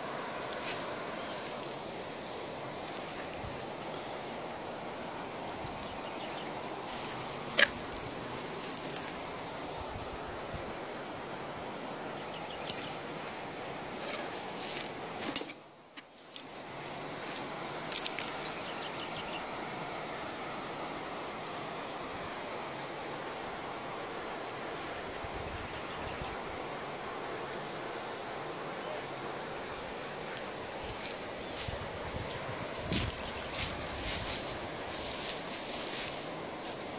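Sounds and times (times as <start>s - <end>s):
insect buzzing: 0.0s - 15.5s, 16.5s - 36.9s.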